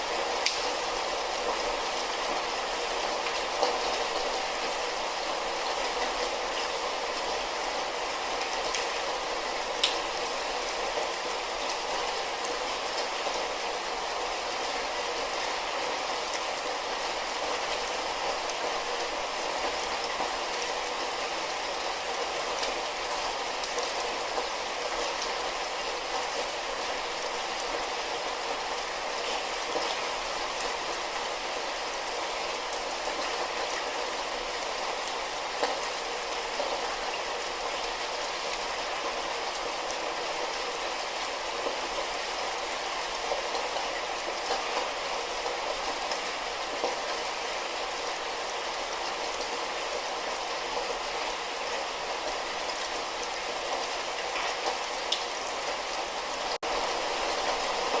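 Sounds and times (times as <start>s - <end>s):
light rain hissing: 0.0s - 58.0s.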